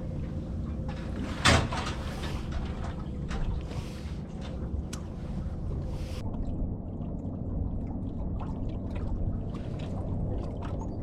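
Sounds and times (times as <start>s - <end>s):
steady low rumble: 0.0s - 11.0s
water lapping against boat hull: 0.0s - 11.0s.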